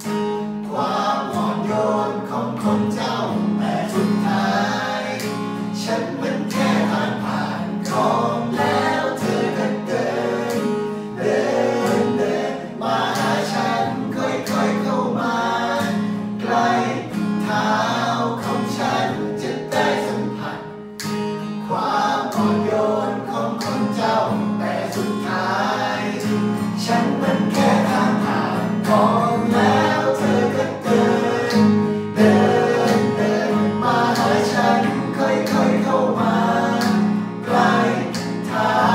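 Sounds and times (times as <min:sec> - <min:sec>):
men singing together: 0:00.0 - 0:20.8, 0:21.6 - 0:38.9
acoustic guitar strumming chords: 0:00.0 - 0:38.9.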